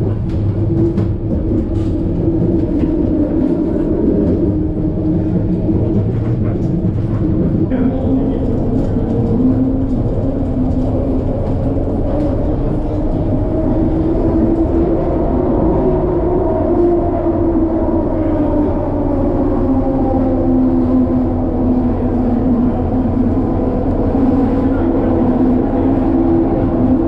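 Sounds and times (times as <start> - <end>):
train car rumbling on track: 0.0 - 27.0.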